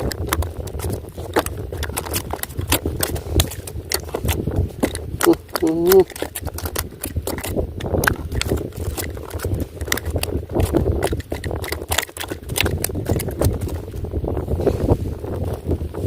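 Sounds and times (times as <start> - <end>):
rapid irregular clicks and knocks: 0.0 - 14.1
steady low rumble: 0.0 - 16.0.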